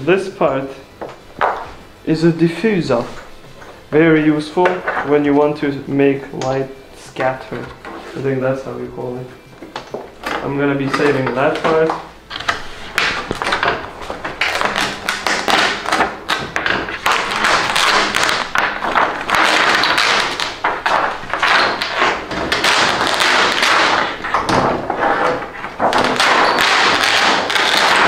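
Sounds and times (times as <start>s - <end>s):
plastic sheets crackling and rustling: 2.8s - 28.0s.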